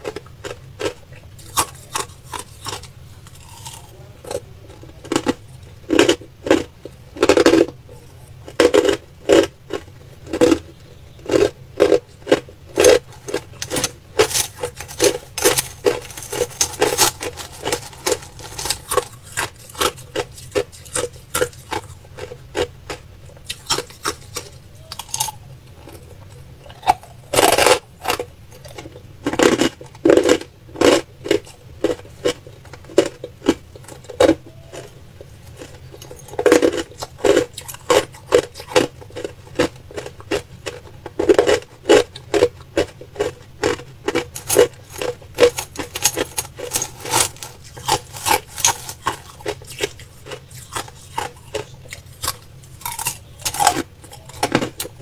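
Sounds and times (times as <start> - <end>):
crushed ice being chewed: 0.0 - 55.0.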